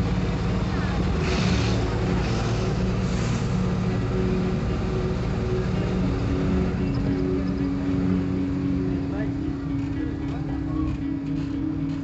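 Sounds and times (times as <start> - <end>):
bus engine drone: 0.0 - 12.0
road noise: 0.0 - 12.0.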